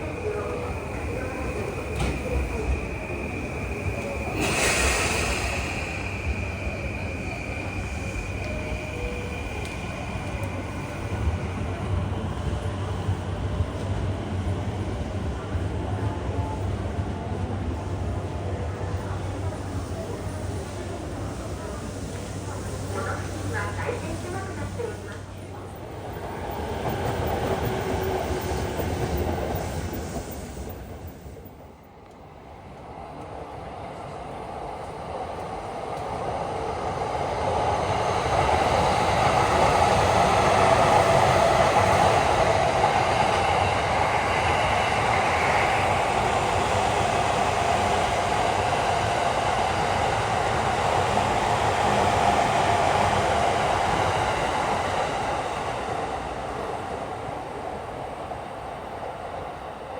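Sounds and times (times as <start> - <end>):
electric train running on track: 0.0 - 59.9.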